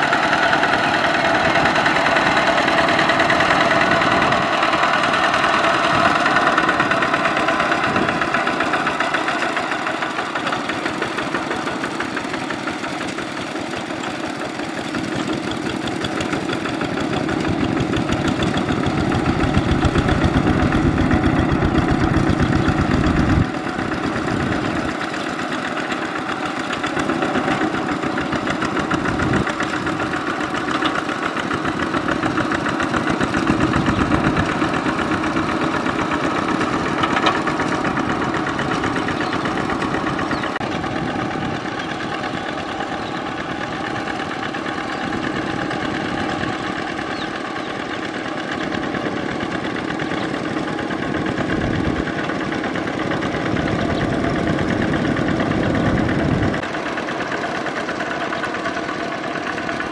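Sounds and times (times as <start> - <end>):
diesel engine chugging: 0.0 - 59.9
wheels working through water: 0.0 - 59.9.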